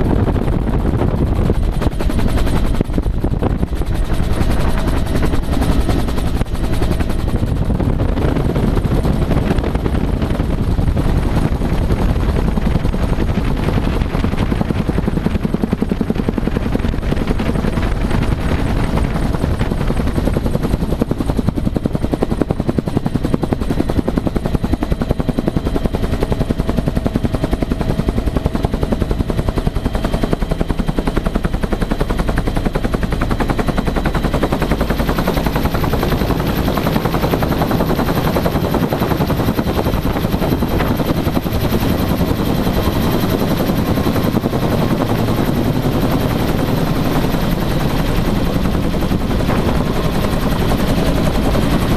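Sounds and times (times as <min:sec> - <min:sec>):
helicopter rotor beating: 0:00.0 - 0:51.9
helicopter turbine running: 0:00.0 - 0:51.9.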